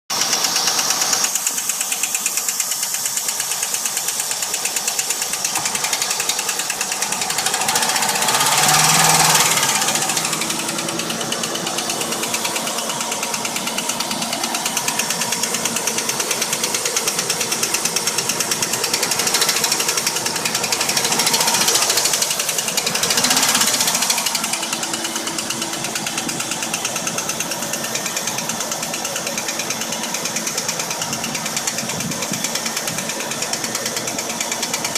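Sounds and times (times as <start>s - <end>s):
engine with knocking valvetrain: 0.1s - 34.9s.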